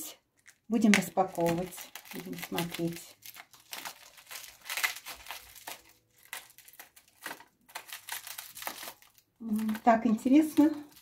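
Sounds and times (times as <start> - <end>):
plastic wrapping crinkling: 0.1 - 11.0.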